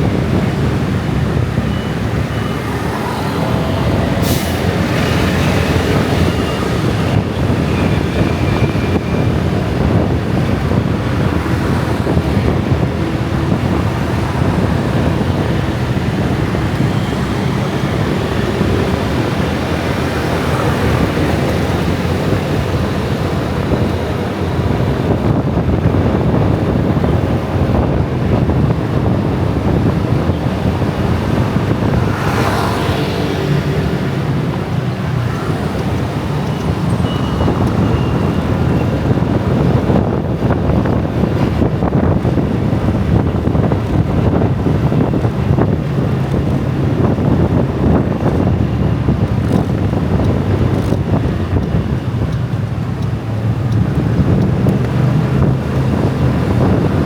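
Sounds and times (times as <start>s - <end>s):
scooter and car traffic: 0.0s - 57.0s
wind buffeting microphone: 0.0s - 57.0s.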